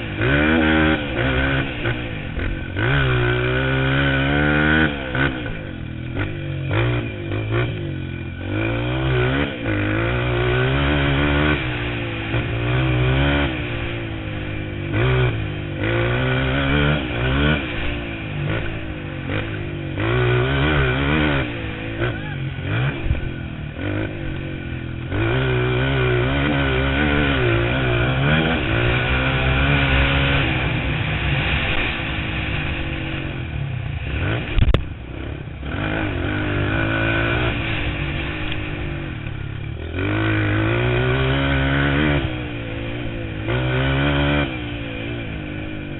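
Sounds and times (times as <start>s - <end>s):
dirt bike engines revving: 0.0s - 45.9s
drone of other bikes: 0.0s - 45.9s.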